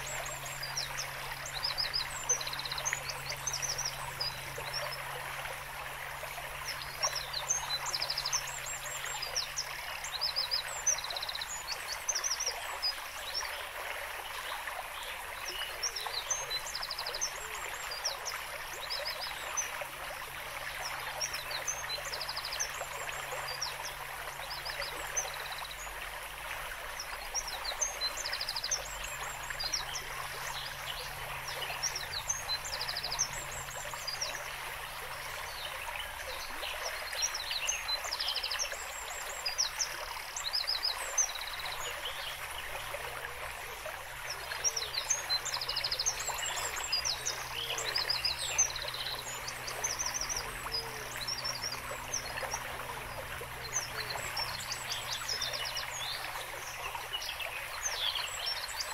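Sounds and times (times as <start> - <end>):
small birds trilling and chirping: 0.0 - 58.9.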